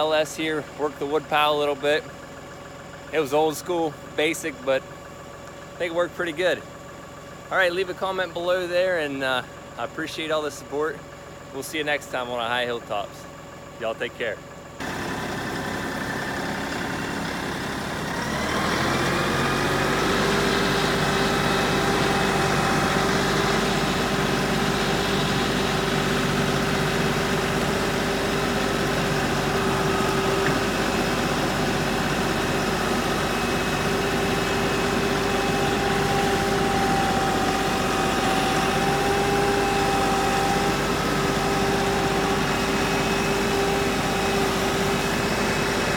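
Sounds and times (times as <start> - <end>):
tractor diesel engine revving: 0.0 - 45.9.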